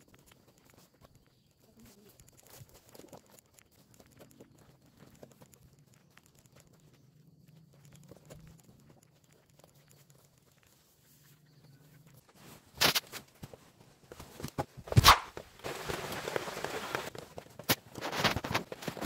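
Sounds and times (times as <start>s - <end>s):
corn husks tearing and crinkling: 0.0s - 19.0s.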